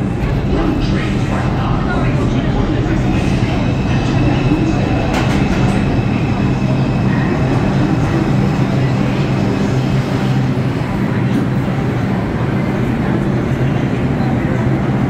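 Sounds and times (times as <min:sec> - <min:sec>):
subway train slowing to a stop: 0:00.0 - 0:15.0.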